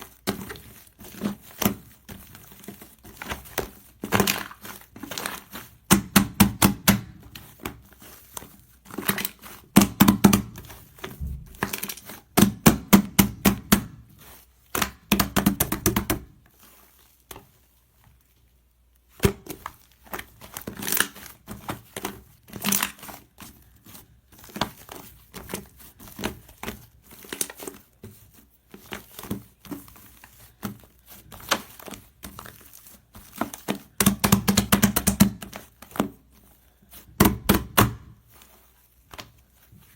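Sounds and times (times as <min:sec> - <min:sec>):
crinkling handling noise: 0:00.0 - 0:39.9.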